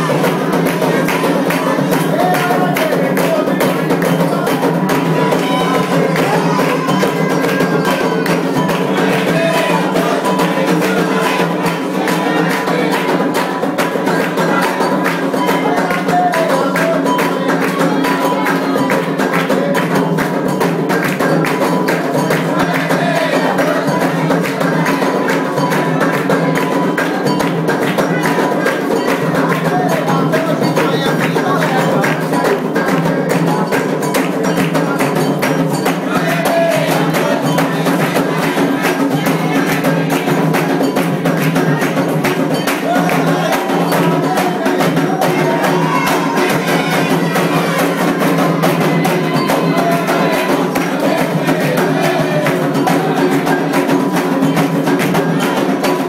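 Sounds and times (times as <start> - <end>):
hand drums drumming: 0.0 - 56.0
people singing: 0.0 - 56.0
struck bell pattern: 0.0 - 56.0.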